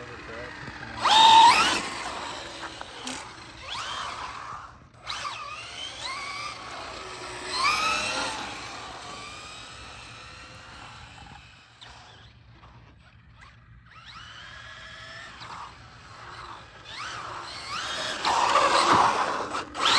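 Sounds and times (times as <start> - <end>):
electric motor whining: 0.0 - 19.9.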